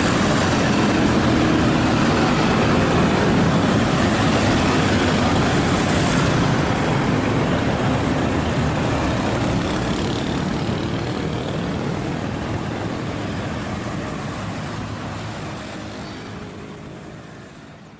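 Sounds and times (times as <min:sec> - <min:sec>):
motorcycles and cars passing: 0:00.0 - 0:17.9.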